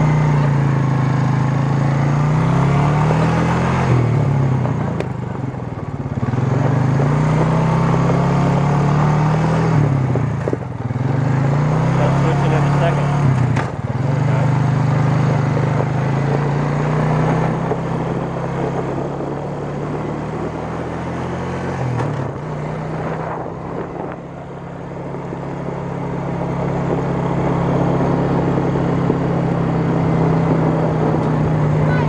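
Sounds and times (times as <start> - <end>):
atv engine drone: 0.0 - 32.0.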